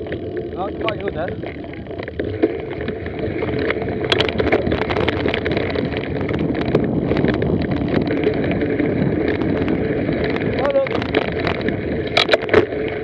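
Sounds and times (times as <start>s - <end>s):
bike tyres rumbling on dirt: 0.0s - 13.0s
wind on microphone: 0.6s - 13.0s
bike clicks and rattles: 2.0s - 12.8s.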